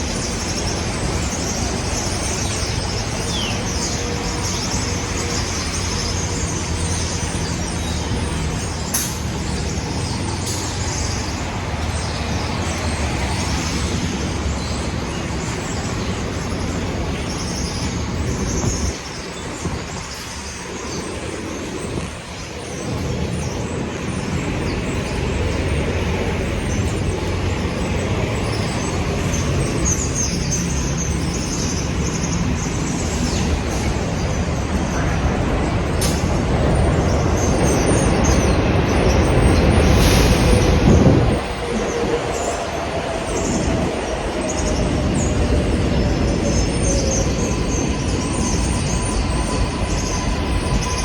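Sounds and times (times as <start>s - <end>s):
street traffic rumbling: 0.0s - 51.0s.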